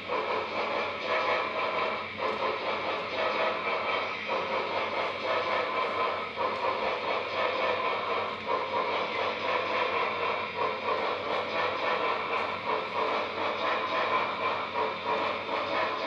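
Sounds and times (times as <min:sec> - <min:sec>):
model train wheels rolling on rails: 0:00.0 - 0:16.0.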